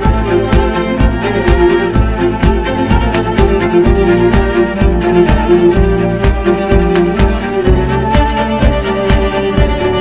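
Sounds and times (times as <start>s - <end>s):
bowed strings over steady beat: 0.0s - 10.0s.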